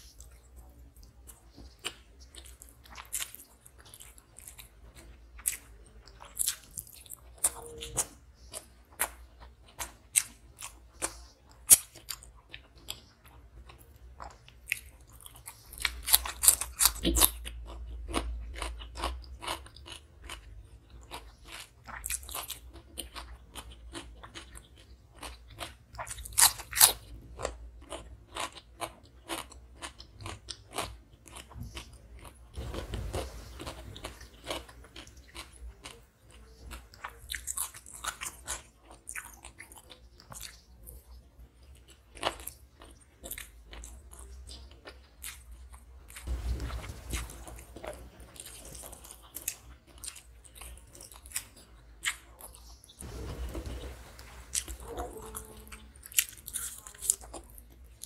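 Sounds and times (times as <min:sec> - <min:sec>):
crunchy food chewing: 0:00.0 - 0:58.0.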